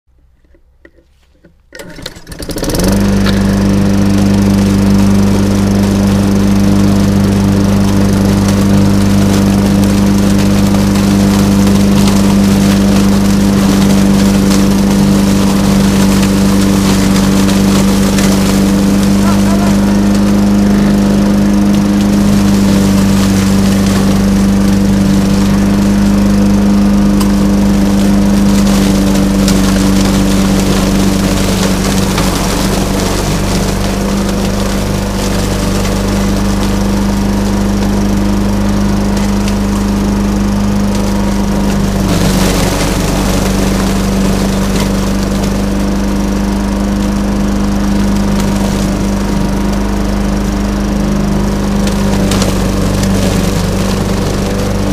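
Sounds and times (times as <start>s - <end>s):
lawn mower running: 0.1s - 54.9s.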